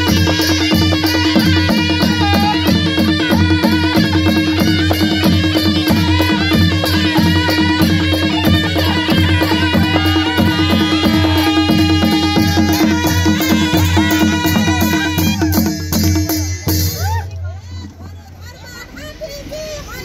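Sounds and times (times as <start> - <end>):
wavering reed melody: 0.0 - 17.0
drums: 0.0 - 20.0.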